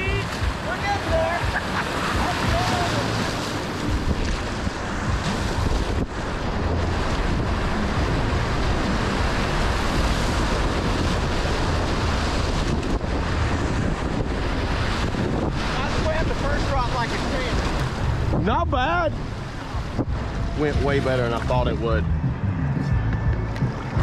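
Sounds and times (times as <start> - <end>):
whitewater rushing: 0.0 - 22.2
wind buffeting microphone: 0.0 - 24.0.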